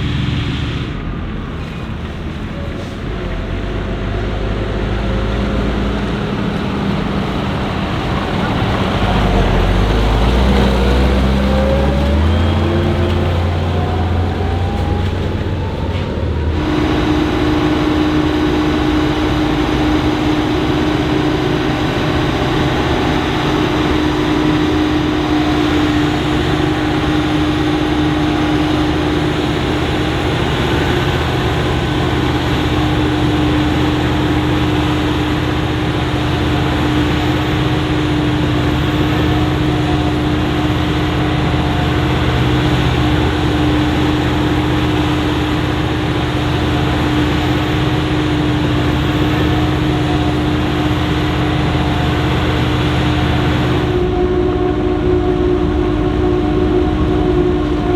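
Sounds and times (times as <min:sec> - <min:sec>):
forage harvester engine under load: 0:00.0 - 0:57.9
high hum of chopping gear: 0:00.0 - 0:57.9.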